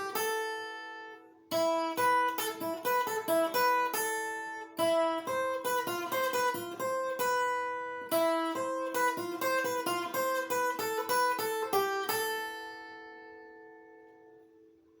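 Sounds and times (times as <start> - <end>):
plucked guitar notes and chord: 0.0 - 14.5.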